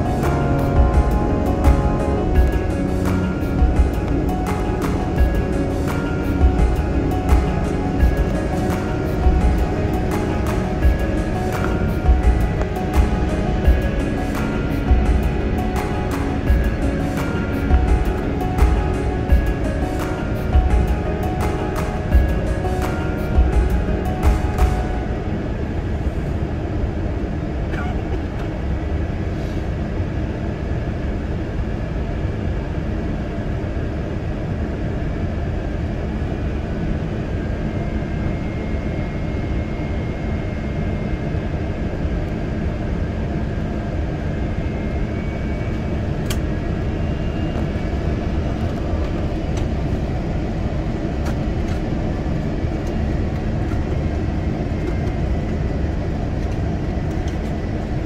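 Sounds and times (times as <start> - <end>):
airplane cabin engine rumble: 0.0 - 58.0
faint steady hum: 0.0 - 58.0.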